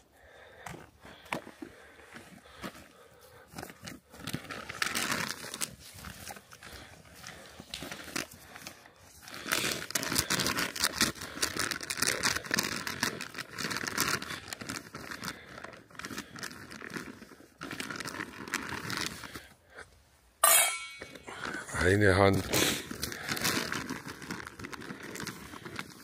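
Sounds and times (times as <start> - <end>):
packaging crinkling and rustling: 1.1 - 19.5, 21.1 - 26.0.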